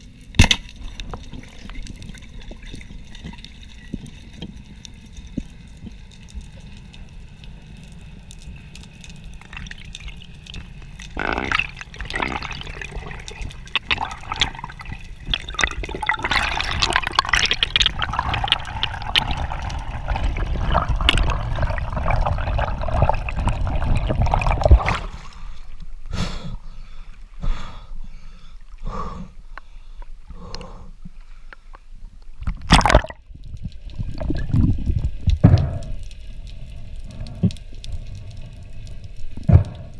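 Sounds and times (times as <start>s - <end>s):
underwater gurgling swishes: 0.0s - 26.1s, 32.0s - 39.9s
underwater water rushing: 0.8s - 25.8s, 32.5s - 39.9s.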